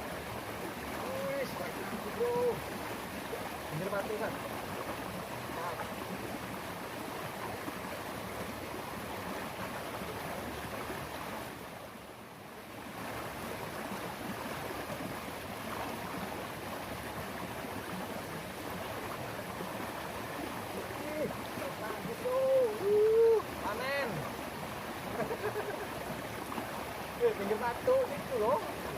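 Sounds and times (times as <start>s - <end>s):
flowing stream water: 0.0s - 28.9s.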